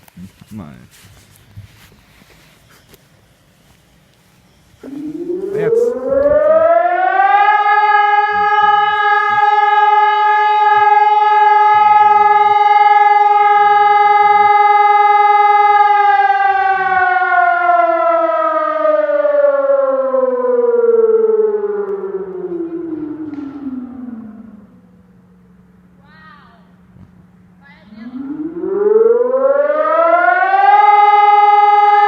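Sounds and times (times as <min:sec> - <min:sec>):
warning siren: 0:01.2 - 0:32.0.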